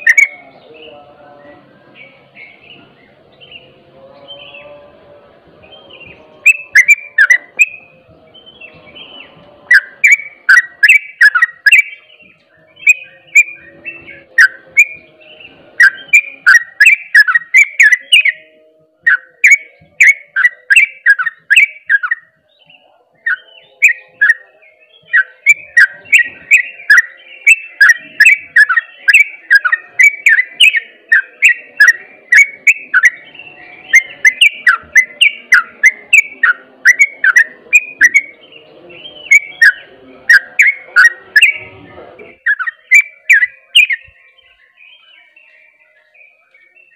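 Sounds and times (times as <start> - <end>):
bulbul singing whistled notes: 0.0 - 4.8, 5.6 - 46.9.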